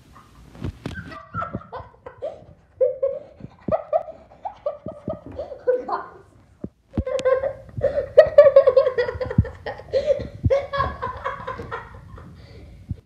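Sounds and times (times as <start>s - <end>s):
young person laughing: 0.2s - 6.3s, 6.9s - 12.7s.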